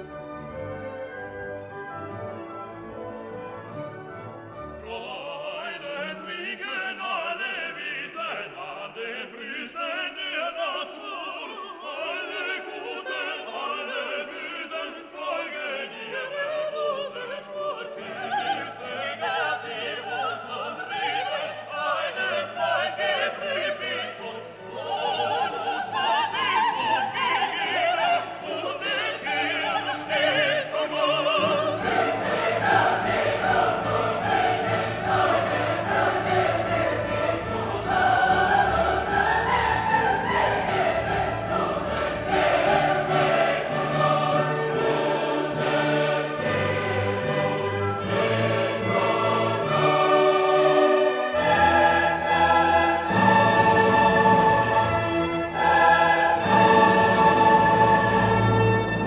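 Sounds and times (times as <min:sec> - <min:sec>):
orchestra with choir: 0:00.0 - 0:59.0.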